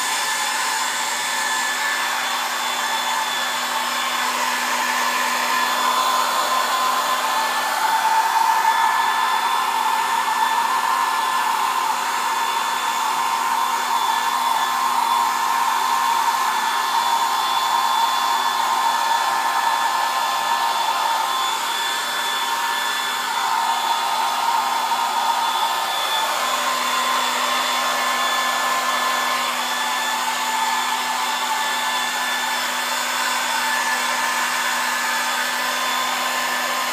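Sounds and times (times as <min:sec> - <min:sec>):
hair dryer running: 0:00.0 - 0:36.9.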